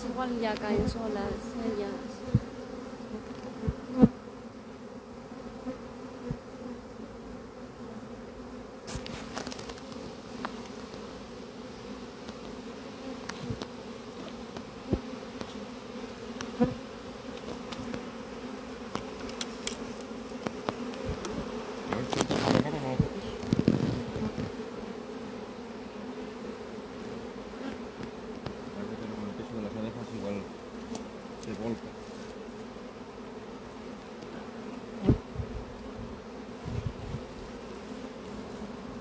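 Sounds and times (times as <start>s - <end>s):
bee swarm buzzing: 0.0s - 39.0s.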